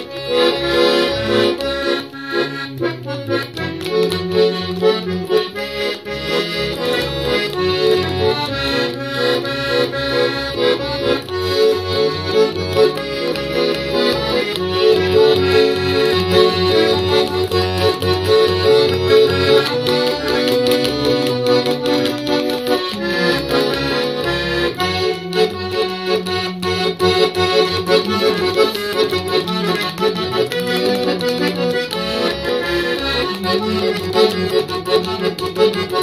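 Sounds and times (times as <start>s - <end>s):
button accordion folk melody: 0.0s - 36.0s.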